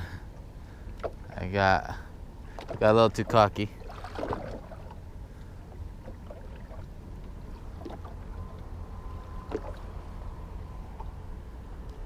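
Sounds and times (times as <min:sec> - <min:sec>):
boat engine low rumble: 0:00.0 - 0:12.0
thin steady whine: 0:00.0 - 0:12.0.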